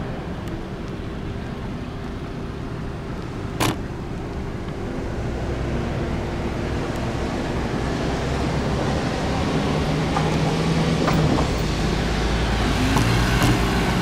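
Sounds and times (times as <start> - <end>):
rumble of passing vehicles: 0.0 - 14.0.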